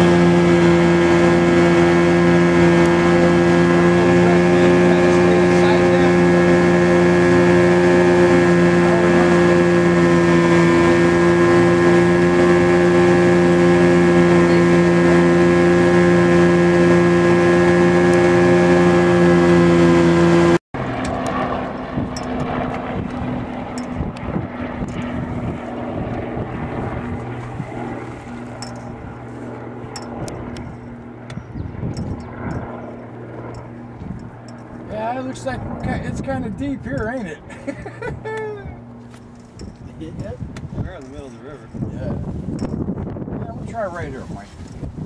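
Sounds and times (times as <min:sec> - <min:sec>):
outboard motor running: 0:00.0 - 0:45.0.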